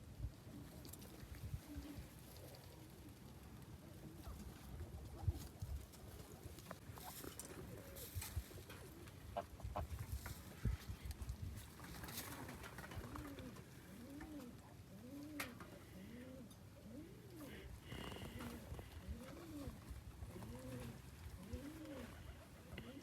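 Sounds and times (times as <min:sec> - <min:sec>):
pigeons cooing: 0:00.4 - 0:23.0.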